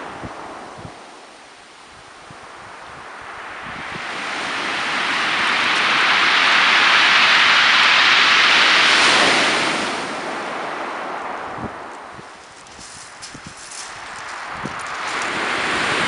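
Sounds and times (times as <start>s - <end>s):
surf washing over pebbles: 3.0s - 16.0s.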